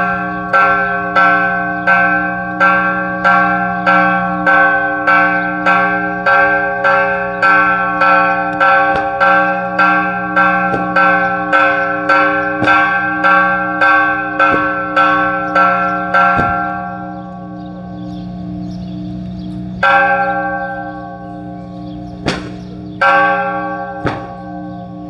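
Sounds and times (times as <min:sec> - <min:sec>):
church bell ringing: 0:00.0 - 0:25.0.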